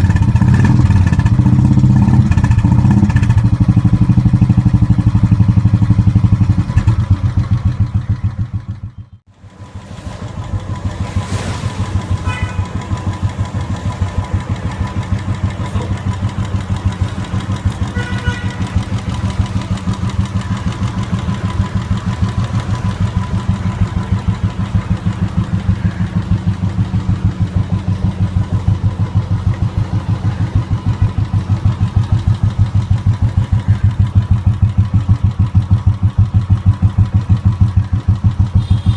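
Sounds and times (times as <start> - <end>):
motorcycle engine thumping at idle: 0.0 - 9.0, 12.0 - 38.9.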